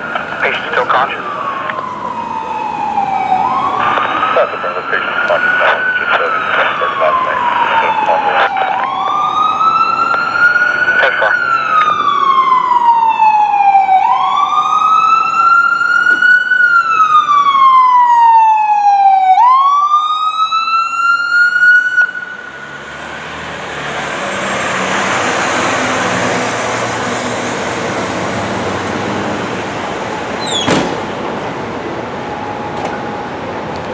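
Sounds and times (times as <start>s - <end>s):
rushing vehicle noise: 0.0s - 19.8s, 20.5s - 33.9s
emergency siren wailing: 0.0s - 30.4s, 31.1s - 33.9s.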